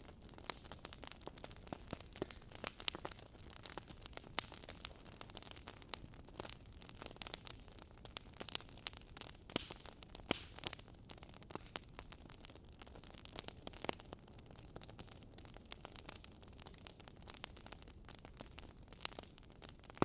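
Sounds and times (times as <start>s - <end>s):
hiss of burning logs: 0.0s - 20.0s
wood fire crackling: 0.0s - 20.0s.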